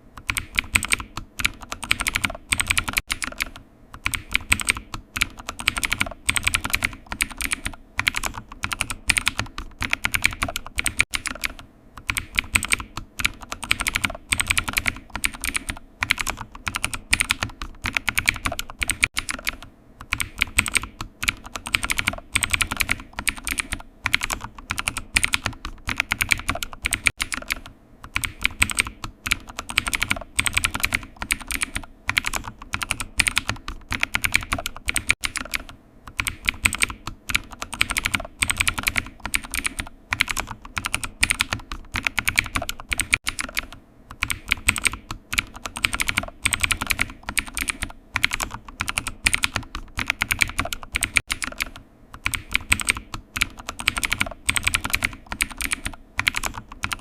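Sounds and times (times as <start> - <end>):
typing on keyboard: 0.2 - 57.0.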